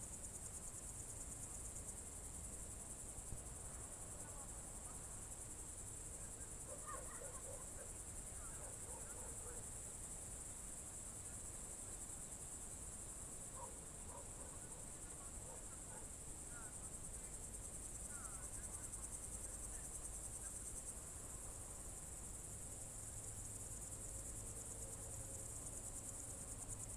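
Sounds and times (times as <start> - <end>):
crickets trilling: 0.0 - 26.9.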